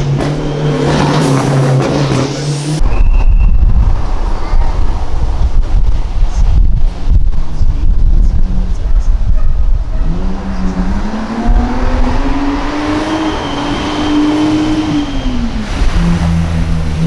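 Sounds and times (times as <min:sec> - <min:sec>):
rally car engine pulling hard: 0:00.0 - 0:17.0.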